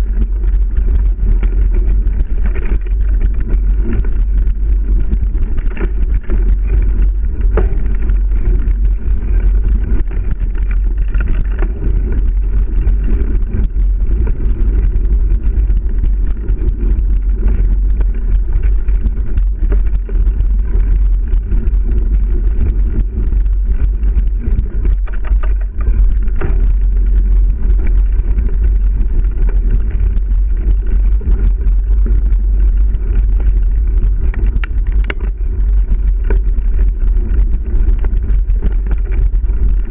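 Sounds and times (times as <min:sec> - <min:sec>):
bike rattling: 0:00.0 - 0:39.9
wind buffeting camera: 0:00.0 - 0:39.9.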